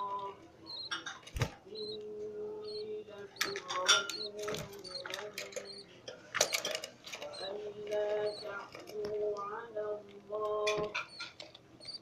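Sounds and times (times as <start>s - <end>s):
budgie chicks begging chirps: 0.0s - 12.0s.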